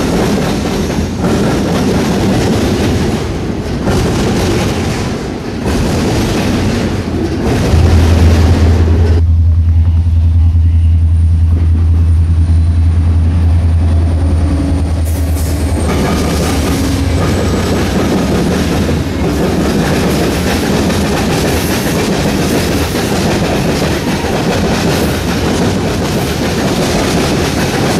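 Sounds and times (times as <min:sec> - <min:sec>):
diesel locomotive drone: 0:00.0 - 0:27.9
train wheels clacking on rails: 0:00.0 - 0:27.9.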